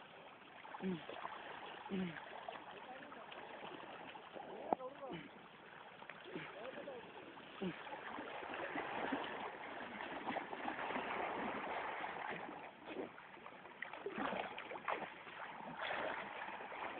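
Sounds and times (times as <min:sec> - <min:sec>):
small splashes and gurgles: 0:00.0 - 0:16.9
river water rushing: 0:00.6 - 0:16.9.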